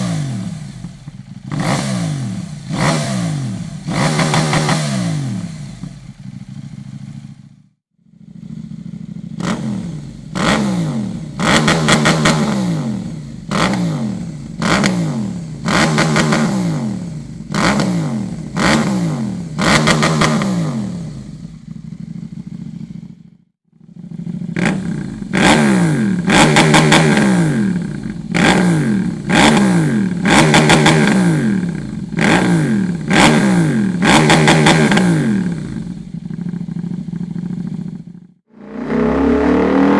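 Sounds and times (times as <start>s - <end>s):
motorcycle engine idling: 0.0s - 30.6s, 31.4s - 34.0s, 35.2s - 39.9s
motorcycle engine revving: 0.0s - 39.9s.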